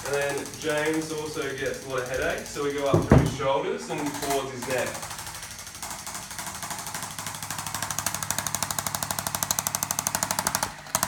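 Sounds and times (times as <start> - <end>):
adjusting instrument tapping rapidly: 0.0 - 11.0.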